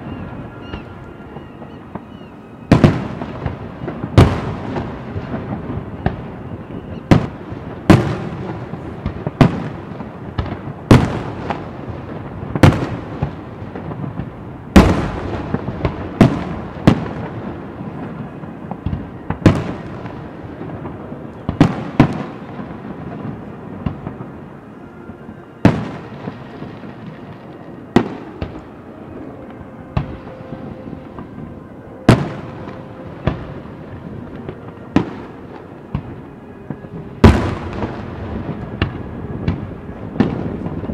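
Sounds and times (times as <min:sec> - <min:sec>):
fireworks bangs with echo: 0:00.0 - 0:40.9.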